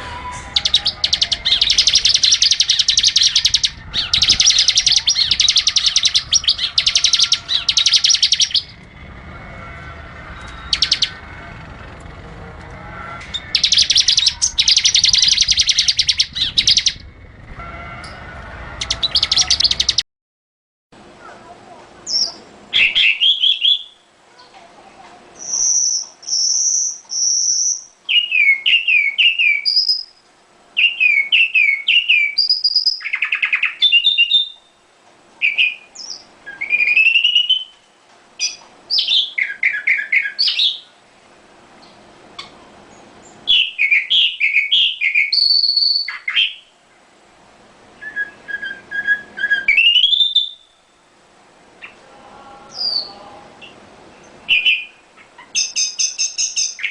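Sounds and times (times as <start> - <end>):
songbird singing: 0.0 - 20.0, 22.0 - 24.5, 25.4 - 41.1, 41.8 - 47.1, 48.0 - 56.9.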